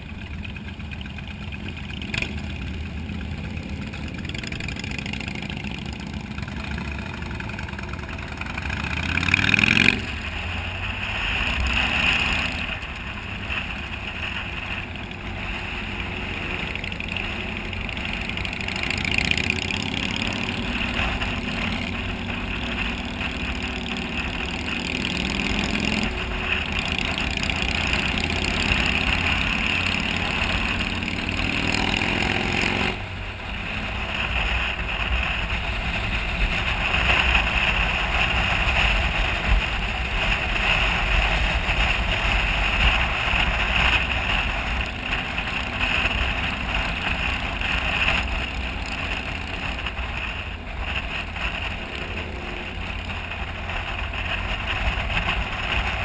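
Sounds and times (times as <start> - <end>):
motorcycle engine accelerating: 0.0 - 56.0
wind rush and road noise: 0.0 - 56.0.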